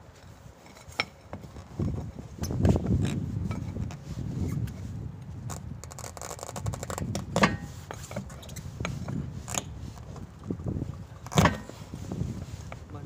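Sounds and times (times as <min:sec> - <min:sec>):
wheel scraping against hub: 0:00.1 - 0:13.0.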